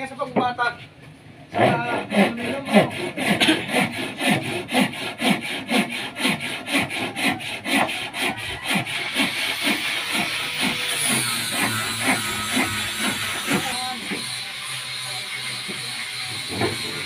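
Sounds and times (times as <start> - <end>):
hand saw cutting wood: 1.5 - 17.0.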